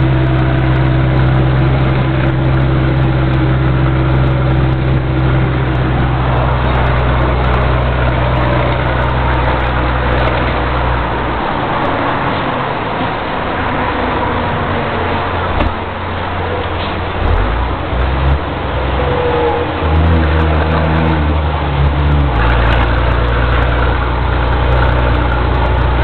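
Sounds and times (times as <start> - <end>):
road and wind noise: 0.0 - 26.0
truck diesel engine drone: 0.0 - 26.0.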